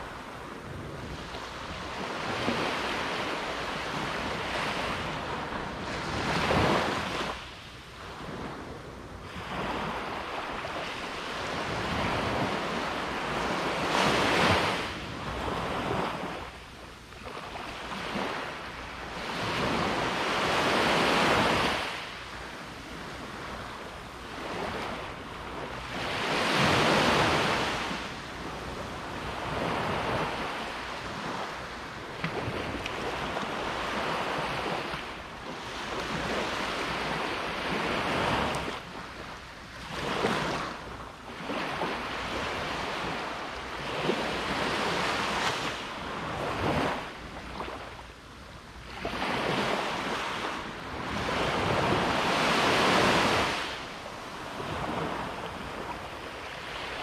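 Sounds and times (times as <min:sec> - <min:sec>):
ocean waves breaking: 0:00.0 - 0:08.6, 0:09.3 - 0:16.6, 0:17.2 - 0:48.1, 0:48.8 - 0:57.0.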